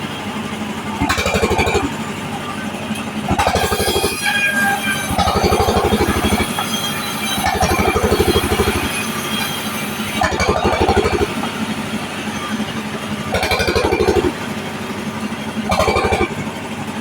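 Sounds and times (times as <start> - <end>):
band saw cutting wood: 1.0 - 2.0, 2.9 - 16.6.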